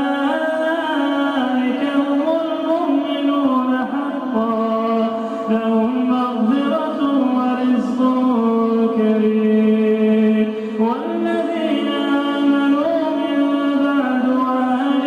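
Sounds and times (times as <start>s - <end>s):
man chanting melodic recitation: 0.0s - 15.0s.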